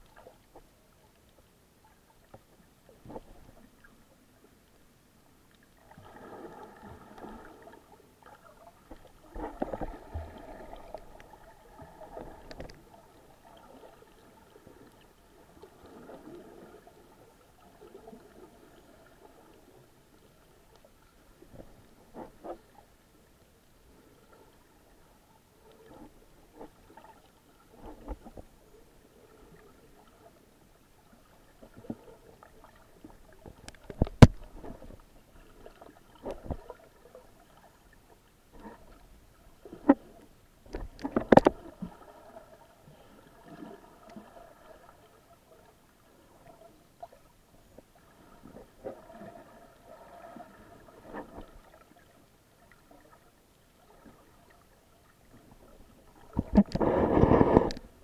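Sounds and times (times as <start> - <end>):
muffled underwater sloshing and gurgling: 0.0 - 58.0.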